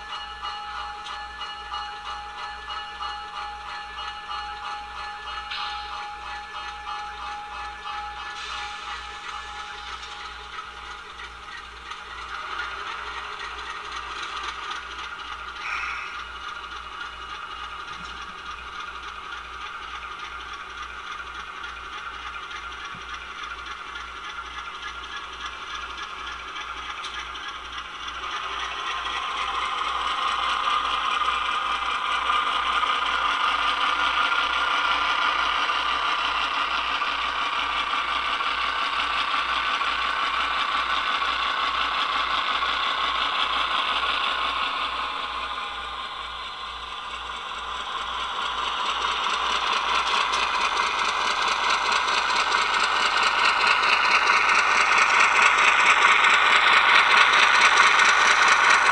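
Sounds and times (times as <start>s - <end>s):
diesel engine sound from small speaker: 0.0s - 58.9s
model train rattling on track: 0.0s - 58.9s.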